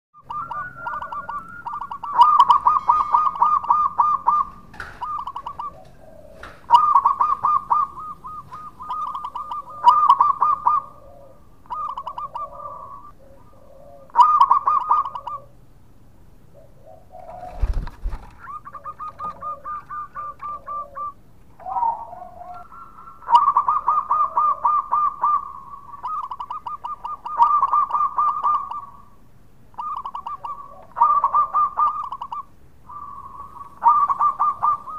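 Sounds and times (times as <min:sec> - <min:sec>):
dove cooing: 0:00.2 - 0:15.6, 0:16.5 - 0:29.2, 0:29.8 - 0:34.9.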